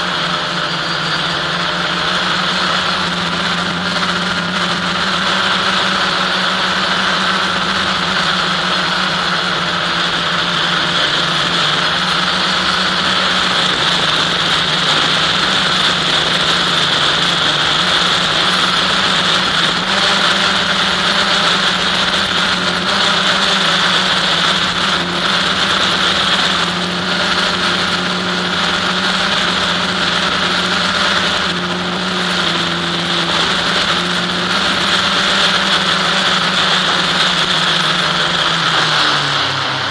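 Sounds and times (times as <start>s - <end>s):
model aircraft motor buzzing: 0.0s - 39.9s.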